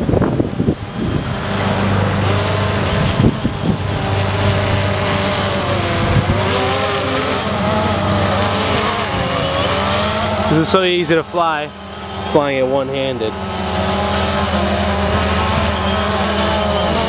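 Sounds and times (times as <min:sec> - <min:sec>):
quadcopter drone humming: 0:00.0 - 0:17.0
wind buffeting microphone: 0:00.0 - 0:17.0.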